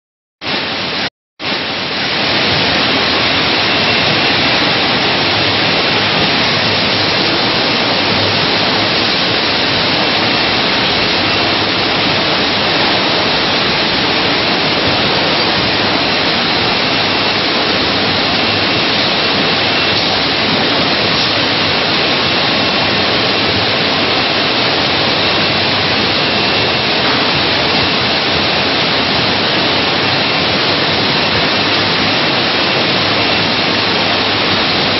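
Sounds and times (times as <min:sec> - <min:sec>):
conveyor and packing machinery: 0:00.5 - 0:34.9.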